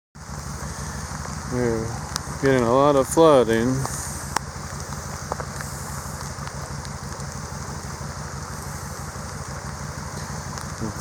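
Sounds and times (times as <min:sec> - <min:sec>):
rain pattering: 0:00.2 - 0:11.0
sharp ticks: 0:00.4 - 0:11.0.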